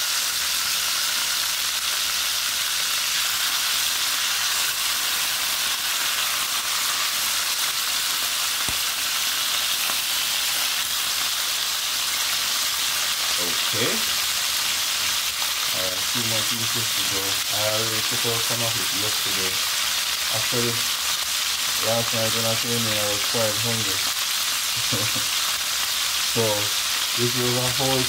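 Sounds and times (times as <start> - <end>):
chicken sizzling in oil: 0.0 - 28.0.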